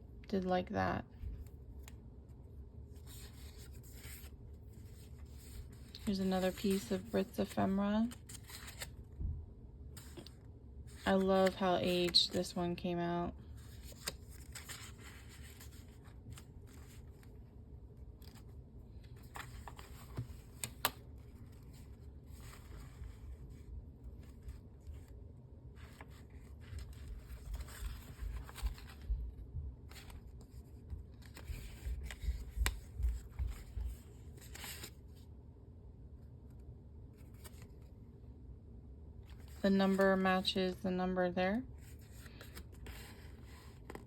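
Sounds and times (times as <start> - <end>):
paper pages rustling: 2.9 - 9.2, 9.9 - 12.6, 13.5 - 35.2, 36.5 - 38.0, 39.2 - 40.6, 41.8 - 44.0.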